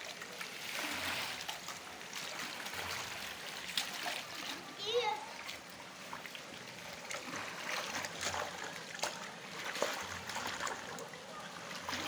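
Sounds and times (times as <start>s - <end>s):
water sloshing and trickling: 0.0s - 12.0s
water splashes: 0.0s - 12.0s.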